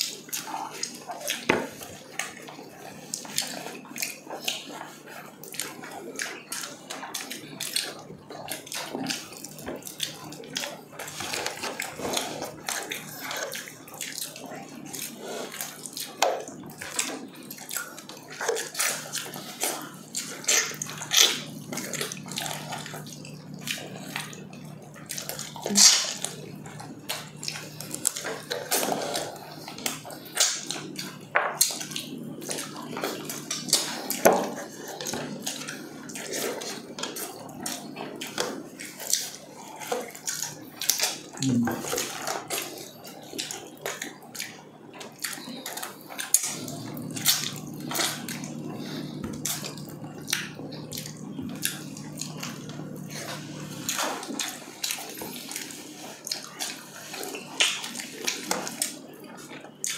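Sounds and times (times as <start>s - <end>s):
wet chewing and lip-smacking: 0.0s - 59.9s.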